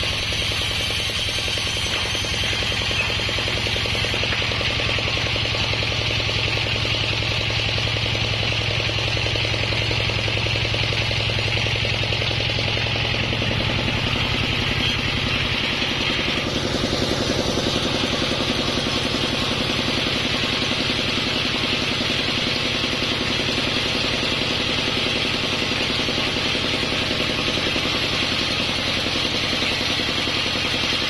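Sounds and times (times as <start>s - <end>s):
bandsaw blade cutting log: 0.0s - 6.9s, 9.6s - 31.0s
bandsaw mill running: 0.0s - 31.0s.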